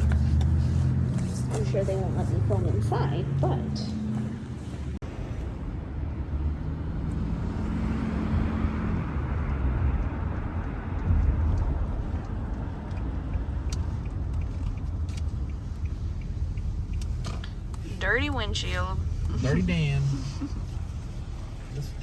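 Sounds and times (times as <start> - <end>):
car interior road and engine rumble: 0.0 - 22.0.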